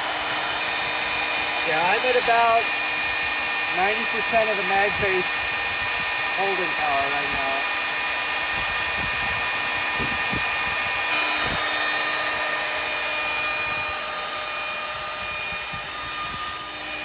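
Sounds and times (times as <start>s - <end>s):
drill bit cutting metal: 0.0s - 17.0s
drill motor whine: 0.0s - 17.0s.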